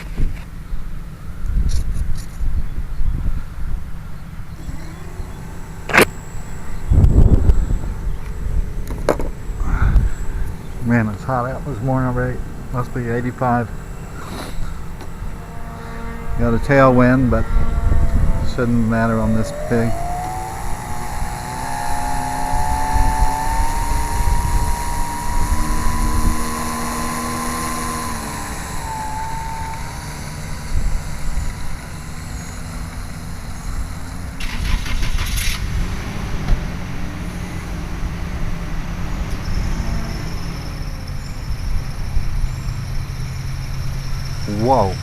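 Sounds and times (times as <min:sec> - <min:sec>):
model airplane motor whining: 0:03.9 - 0:45.0.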